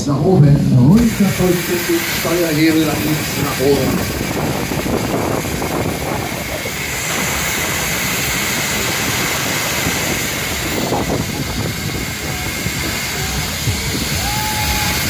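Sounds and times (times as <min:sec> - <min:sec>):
uneven low rumble: 0:00.0 - 0:15.0
wind buffeting microphone: 0:00.0 - 0:15.0.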